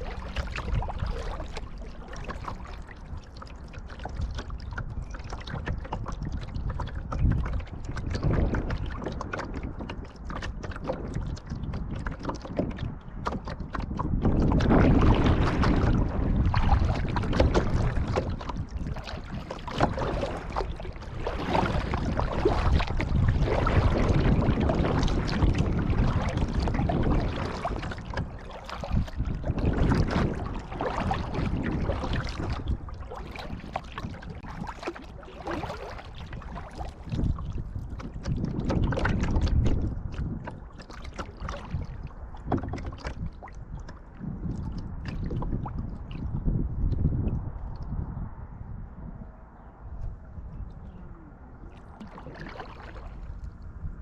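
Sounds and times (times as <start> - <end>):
paddle blades splashing: 0.0 - 46.3, 50.8 - 54.0
water lapping against hull: 0.0 - 54.0.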